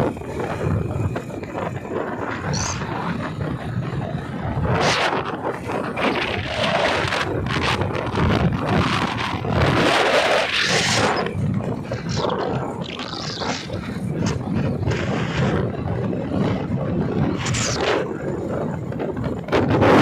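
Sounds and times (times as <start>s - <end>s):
steady low rumble: 0.0s - 20.0s
wind buffeting microphone: 0.0s - 20.0s.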